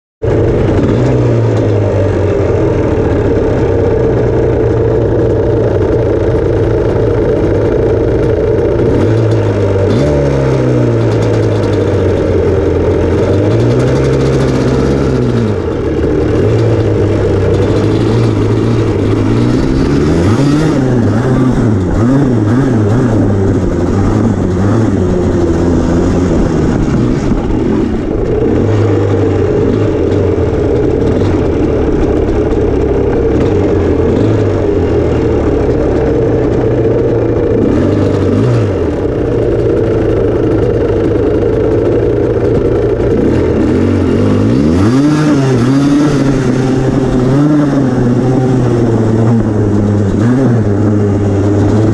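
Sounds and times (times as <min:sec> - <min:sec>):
two-stroke engine idling and revving: 0:00.2 - 0:51.9.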